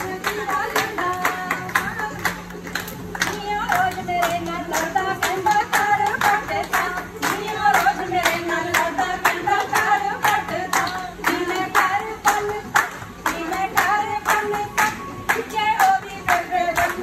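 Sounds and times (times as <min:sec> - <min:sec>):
singing: 0:00.0 - 0:17.0
women clapping in rhythm: 0:00.0 - 0:17.0.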